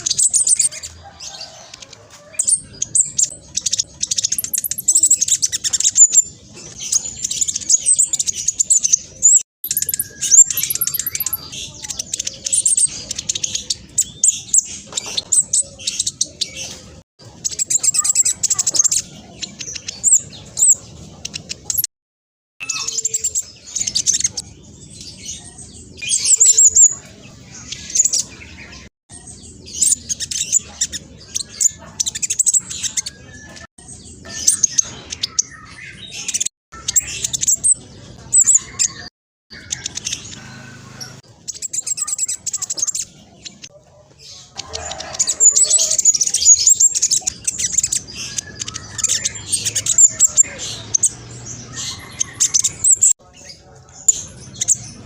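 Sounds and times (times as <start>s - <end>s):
bird twittering and chirping: 0.0s - 21.9s, 22.6s - 55.0s.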